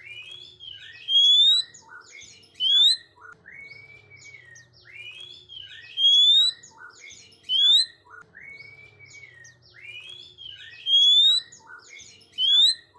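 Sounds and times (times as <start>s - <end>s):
bird singing whistles and chirps: 0.0s - 12.9s.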